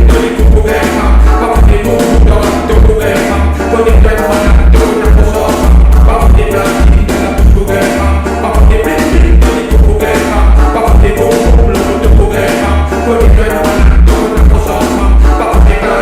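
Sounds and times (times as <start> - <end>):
rap music with heavy bass: 0.0 - 16.0.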